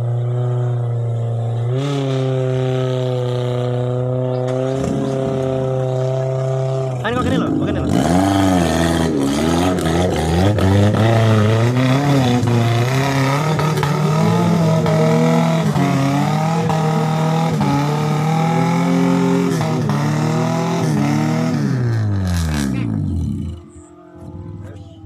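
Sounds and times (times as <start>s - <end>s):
car engine revving hard: 0.0s - 24.9s.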